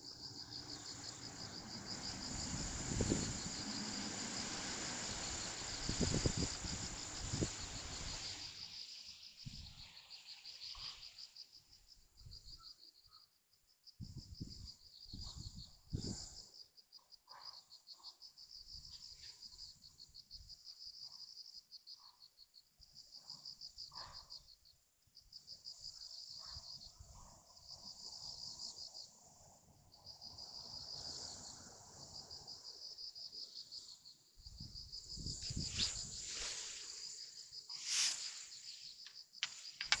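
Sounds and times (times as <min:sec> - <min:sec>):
insects chirping in a trill: 0:00.0 - 0:40.0.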